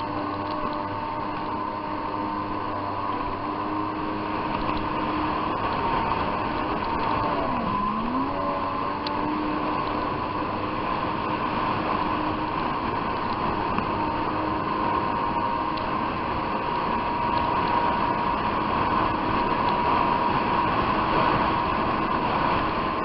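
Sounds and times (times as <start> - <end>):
jet ski engine running: 0.0 - 23.0
rushing noise: 0.9 - 21.7.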